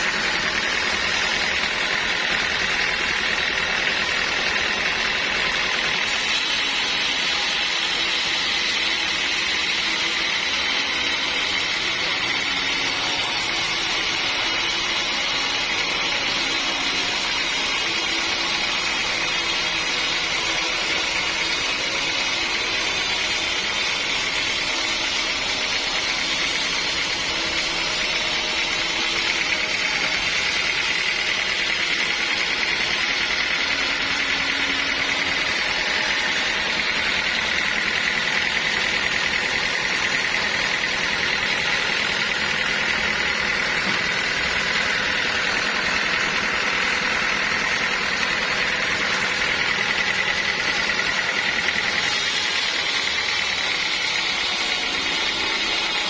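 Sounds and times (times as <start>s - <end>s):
sawmill saw cutting log: 0.0s - 56.0s.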